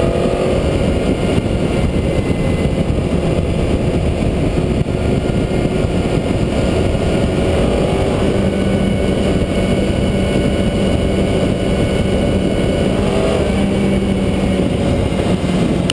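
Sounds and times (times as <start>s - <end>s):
heavy wind rushing: 0.0s - 15.9s
motorcycle engine running: 0.0s - 15.9s.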